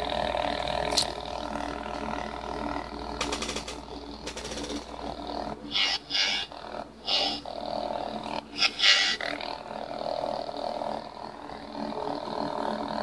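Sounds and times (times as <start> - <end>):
lightsaber electric hum: 0.0 - 13.0.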